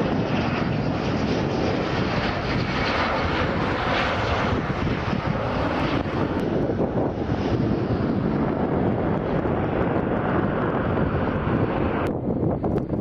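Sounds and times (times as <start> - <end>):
jet fighter taking off: 0.0 - 13.0.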